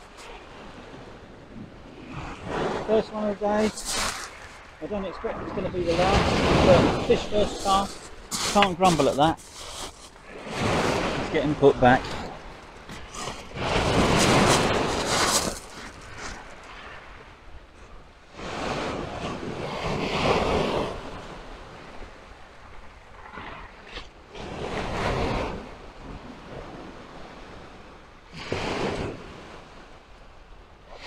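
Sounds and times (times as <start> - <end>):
wind on microphone: 0.0 - 30.0
sea waves breaking on beach: 0.0 - 31.0.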